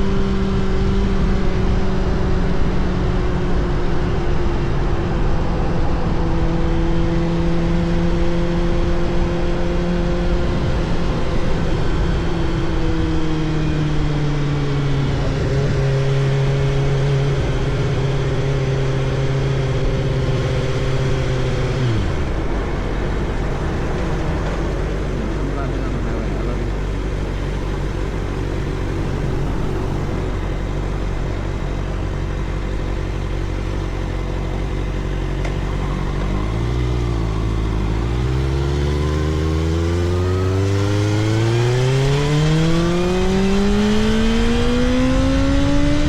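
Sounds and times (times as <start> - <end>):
motorcycle engine cruising: 0.0 - 46.0
riding wind noise: 0.0 - 46.0.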